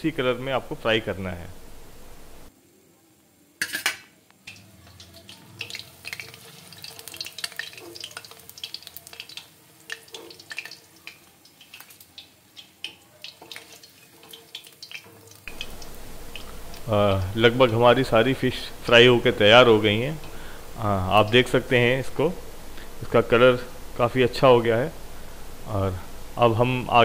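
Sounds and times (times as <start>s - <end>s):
fish frying in hot oil: 4.5s - 26.4s.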